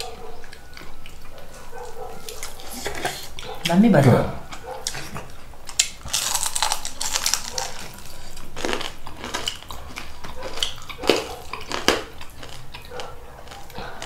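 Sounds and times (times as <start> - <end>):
chewing crunchy fried food: 0.0 - 3.8, 4.5 - 14.0.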